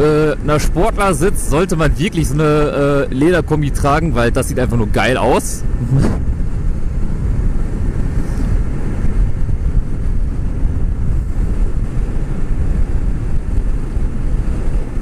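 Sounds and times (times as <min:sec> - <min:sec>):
road noise: 0:00.0 - 0:15.0
wind rumble on microphone: 0:00.0 - 0:15.0.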